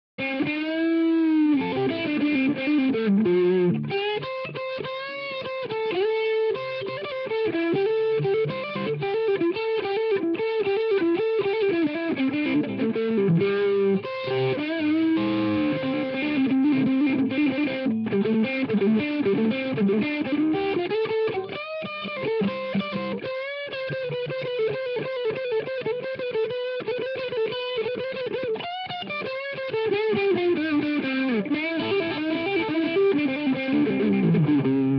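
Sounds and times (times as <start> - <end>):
electric guitar lead lines: 0.2 - 34.9.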